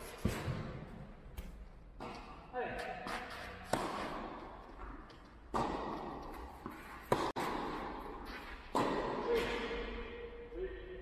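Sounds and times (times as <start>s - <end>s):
ball knocks echoing in hall: 0.1s - 10.5s
racket hitting tennis ball: 0.2s - 10.2s.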